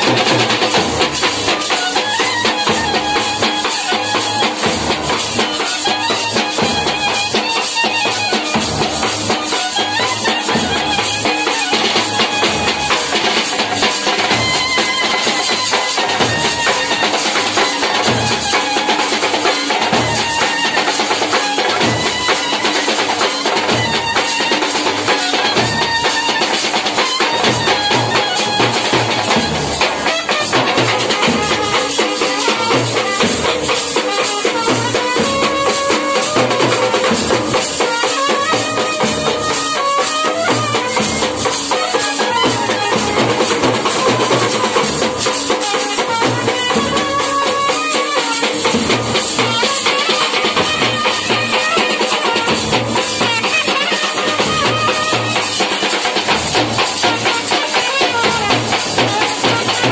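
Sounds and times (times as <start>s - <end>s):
side drums beating: 0.0s - 59.9s
clarinet melody: 1.4s - 55.8s.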